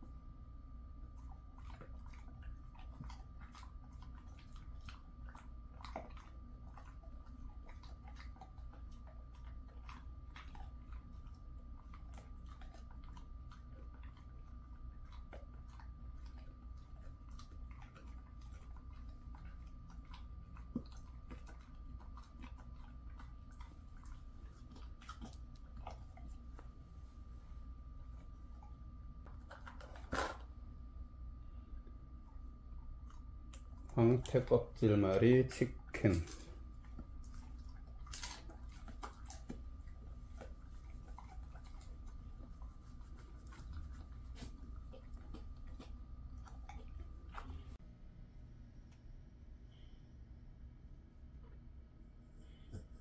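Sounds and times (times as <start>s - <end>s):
dog chewing a treat: 0.4s - 47.8s.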